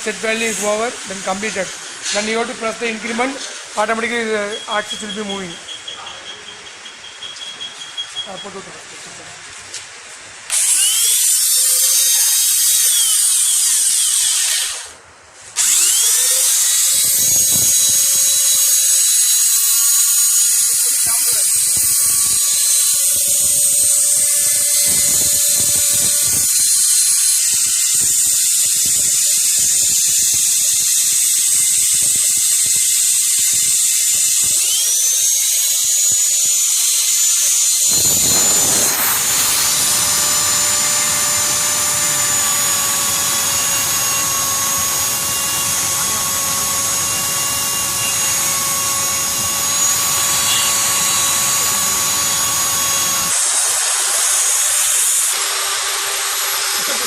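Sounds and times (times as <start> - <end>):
steady mechanical noise: 0.0 - 57.0
milling machine motors whining: 10.5 - 14.9, 15.6 - 57.0.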